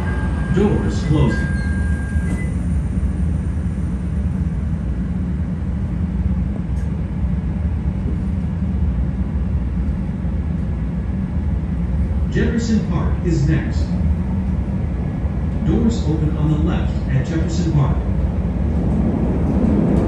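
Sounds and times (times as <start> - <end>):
rail car low rumble: 0.0 - 20.0.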